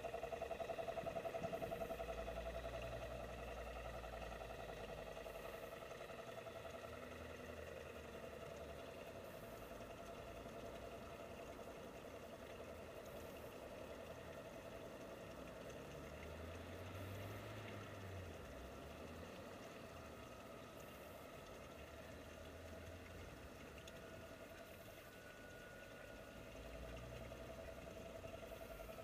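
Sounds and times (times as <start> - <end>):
small boat motor humming: 0.0 - 29.0.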